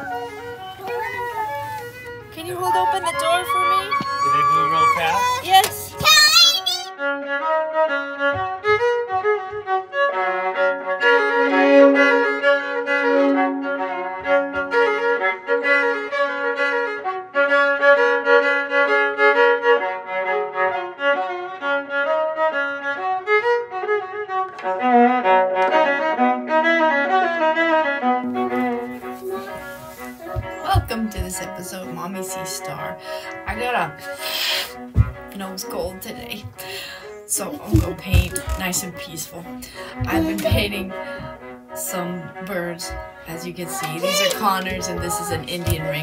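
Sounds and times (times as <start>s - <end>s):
violin melody with vibrato: 0.0s - 46.0s.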